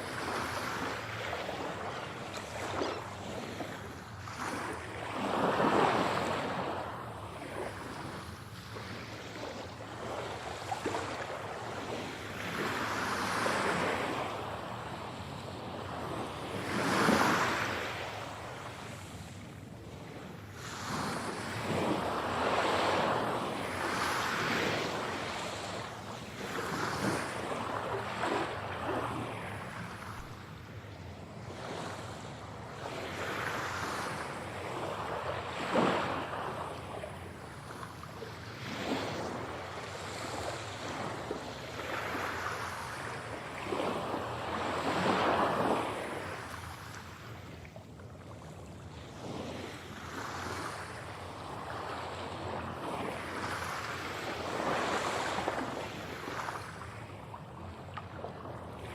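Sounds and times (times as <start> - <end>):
sea waves breaking: 0.0 - 58.9.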